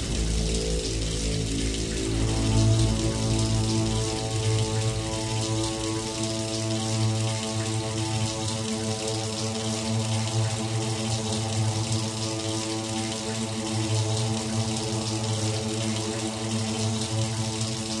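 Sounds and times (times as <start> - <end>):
droning soundtrack music: 0.0 - 18.0.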